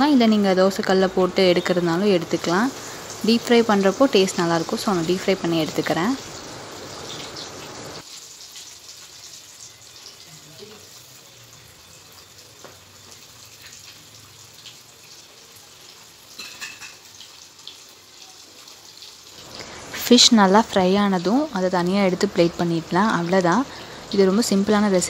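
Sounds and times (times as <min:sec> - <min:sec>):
fish deep-frying in hot oil: 0:00.0 - 0:25.0.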